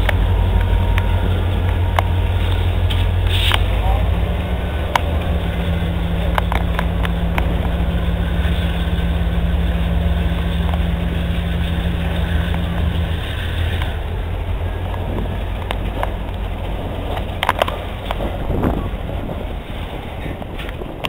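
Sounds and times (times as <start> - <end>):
freight train wheels rumbling on rails: 0.0 - 21.0
steady low hum: 0.0 - 21.0.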